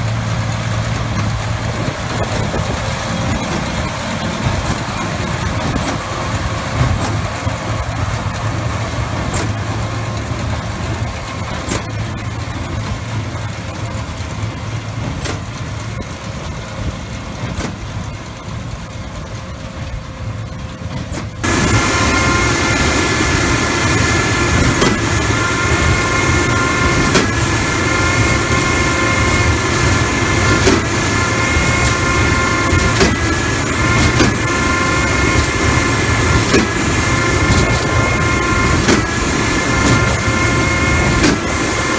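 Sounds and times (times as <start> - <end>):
high machinery whine: 0.0 - 41.9
tractor and baler running: 0.0 - 41.9.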